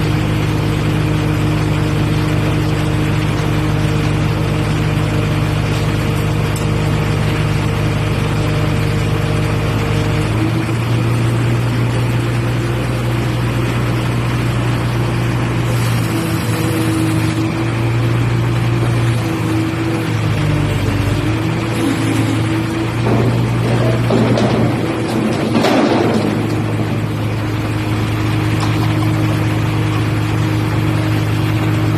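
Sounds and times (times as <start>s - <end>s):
truck engine running: 0.0s - 31.9s.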